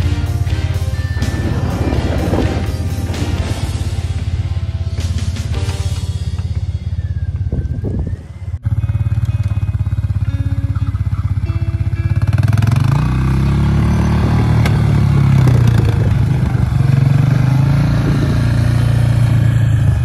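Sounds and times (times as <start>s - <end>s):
small engine revving: 1.0s - 20.0s.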